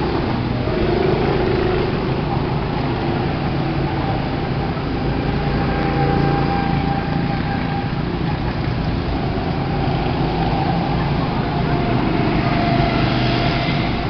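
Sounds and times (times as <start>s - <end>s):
go-kart engines droning: 0.0s - 14.0s.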